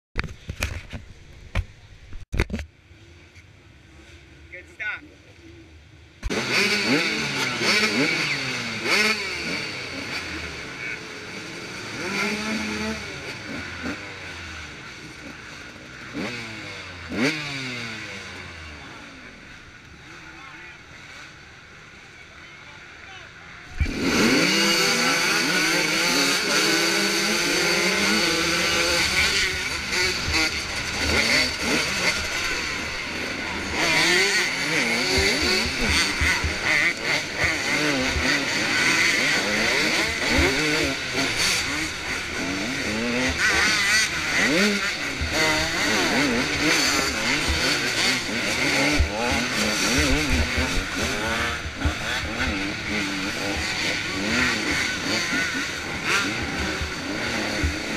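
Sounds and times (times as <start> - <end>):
motocross bike engines: 0.2 - 57.9.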